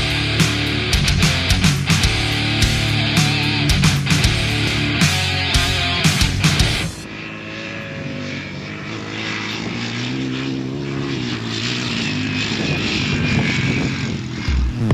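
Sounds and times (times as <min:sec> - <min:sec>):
off-road motorcycle engine running: 0:00.0 - 0:14.9.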